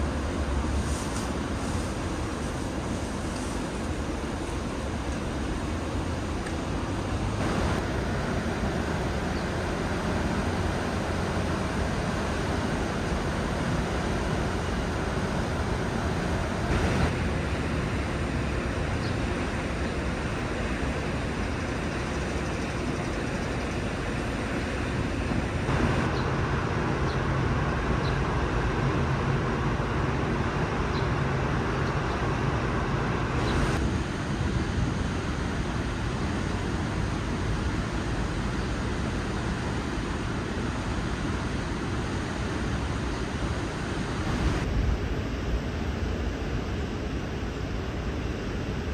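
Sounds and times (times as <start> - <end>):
urban traffic rumble: 0.0 - 48.9.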